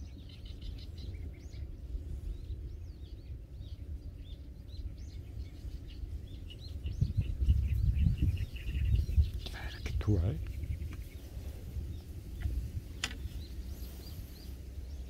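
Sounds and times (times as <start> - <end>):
low steady rumble: 0.0 - 15.0
small birds chirping: 0.0 - 15.0.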